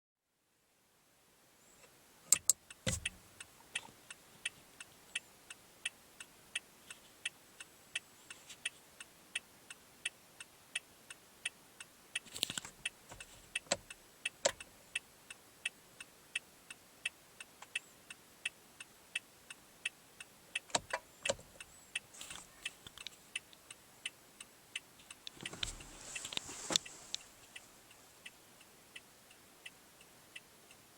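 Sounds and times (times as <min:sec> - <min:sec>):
car turn signal ticking: 0:02.3 - 0:30.8.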